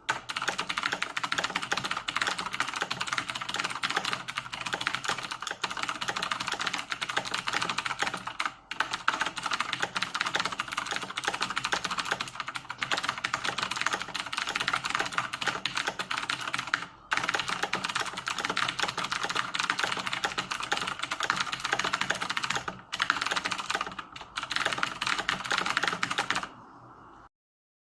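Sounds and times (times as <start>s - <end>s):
mechanical keyboard typing: 0.0s - 26.5s.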